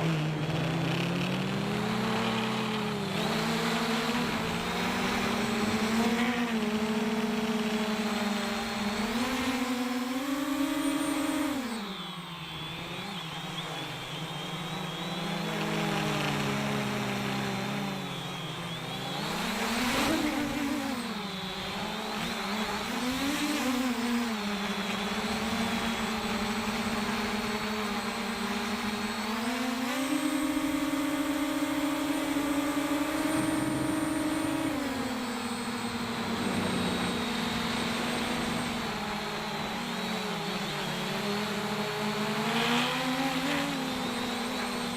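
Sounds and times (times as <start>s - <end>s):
drone propellers humming: 0.0s - 44.9s.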